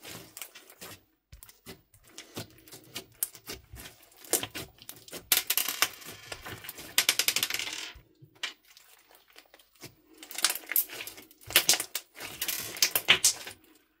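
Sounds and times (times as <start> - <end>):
slime popping and crackling: 0.0 - 7.5, 8.7 - 13.7.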